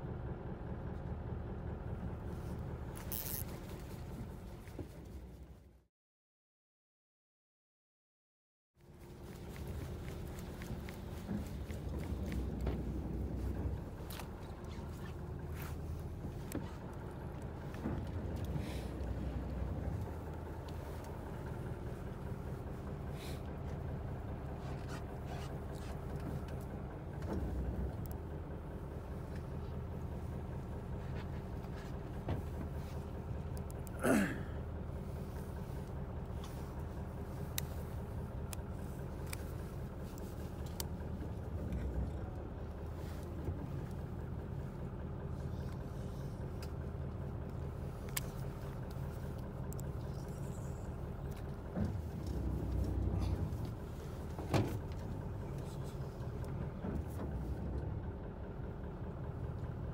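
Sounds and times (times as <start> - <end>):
boat engine humming: 0.0 - 5.8, 8.8 - 59.9.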